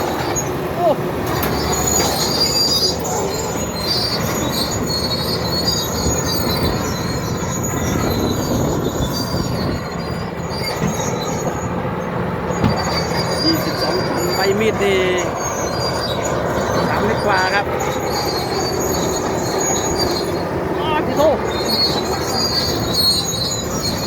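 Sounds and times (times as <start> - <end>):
bulldozer diesel engine under load: 0.0 - 24.0
steel tracks squealing and clanking: 0.0 - 24.0.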